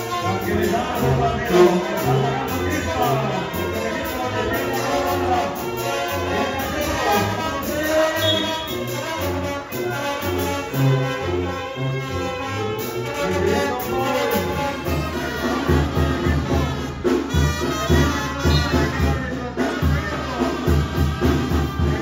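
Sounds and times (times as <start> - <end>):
latin music with brass: 0.0 - 22.0.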